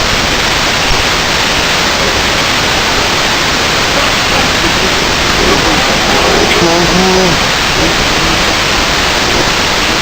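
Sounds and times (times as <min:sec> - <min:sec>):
loud steady hiss: 0:00.0 - 0:10.0.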